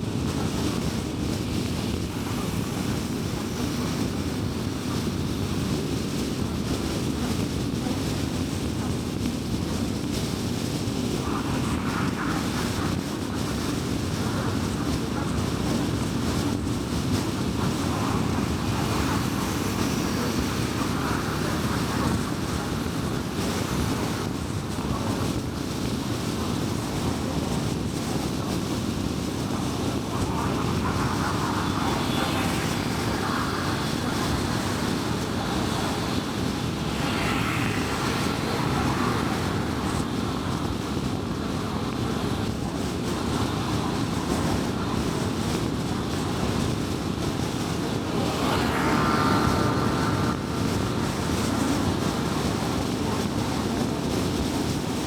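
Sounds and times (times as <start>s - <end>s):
low tyre rumble: 0.0s - 55.0s
road hiss: 0.0s - 55.0s
engine hum: 10.2s - 55.0s.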